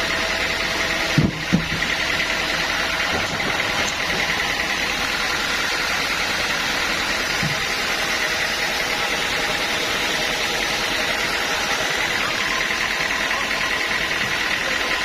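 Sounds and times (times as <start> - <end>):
constant high whine: 0.0 - 15.0
sawmill machinery running: 0.0 - 15.0.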